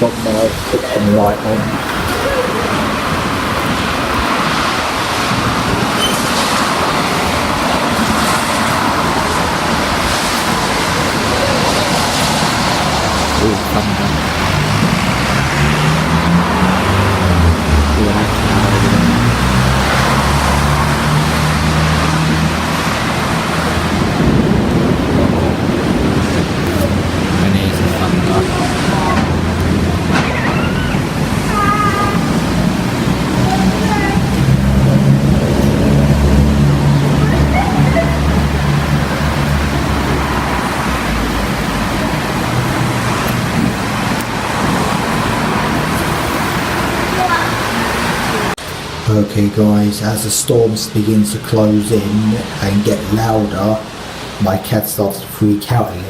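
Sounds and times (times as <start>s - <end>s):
wind and rain on microphone: 0.0s - 56.0s.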